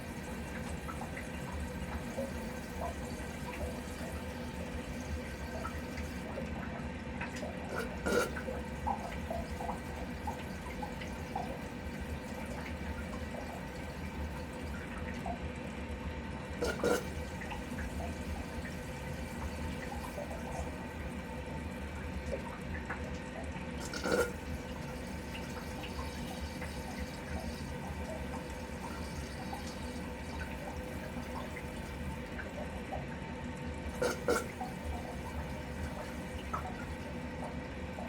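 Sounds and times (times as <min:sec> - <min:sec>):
water running and dripping: 0:00.0 - 0:38.0.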